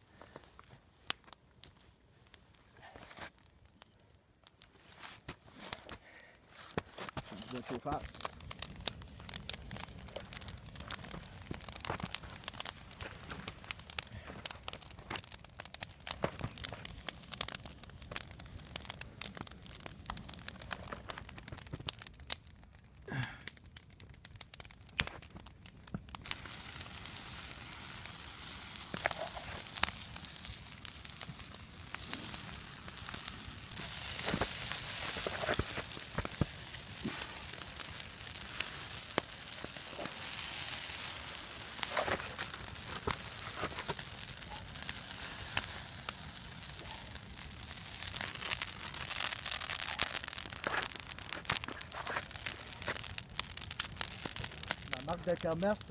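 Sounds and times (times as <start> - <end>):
campfire crackling and popping: 0.0 - 55.9
fire hissing: 4.6 - 22.4, 23.1 - 23.8, 24.9 - 55.9.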